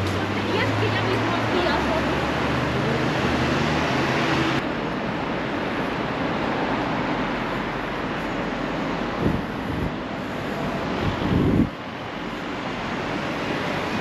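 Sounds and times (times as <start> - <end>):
street traffic roar: 0.0 - 14.0
vehicle engine humming: 0.0 - 14.0.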